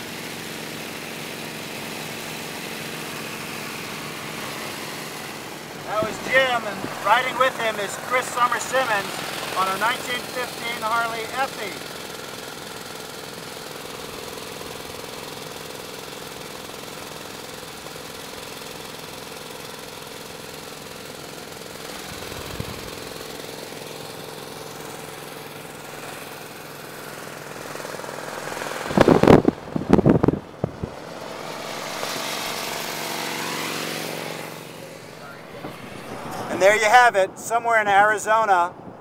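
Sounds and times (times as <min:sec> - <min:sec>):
motorcycle engine running: 0:00.0 - 0:37.1
second motorcycle approaching: 0:00.0 - 0:38.1
road noise: 0:00.0 - 0:39.0.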